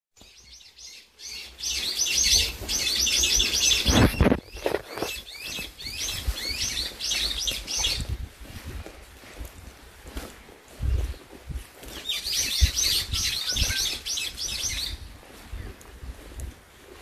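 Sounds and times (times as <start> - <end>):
songbird chirping: 0.2 - 8.2, 9.3 - 16.9.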